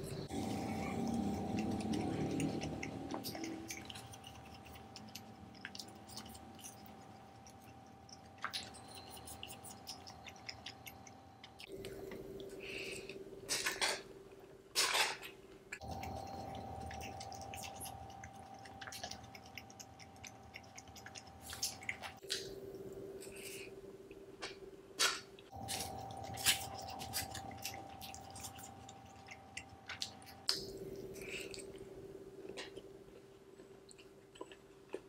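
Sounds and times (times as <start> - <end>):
close chewing mouth sounds: 0.0 - 13.3, 15.7 - 22.6, 25.5 - 35.0.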